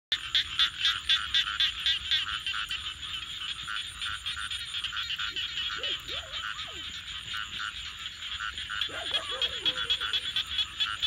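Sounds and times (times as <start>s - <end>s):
frogs croaking: 0.1s - 11.0s.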